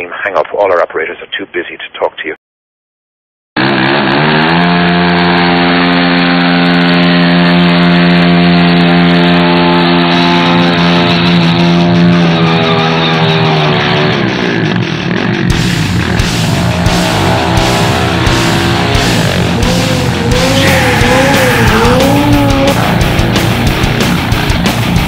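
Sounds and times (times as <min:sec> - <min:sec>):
motorcycle engine revving: 0:03.6 - 0:25.0.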